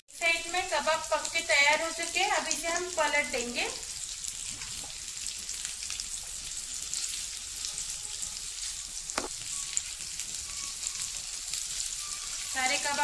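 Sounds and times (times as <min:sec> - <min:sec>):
kebabs sizzling in frying pan: 0:00.0 - 0:13.0.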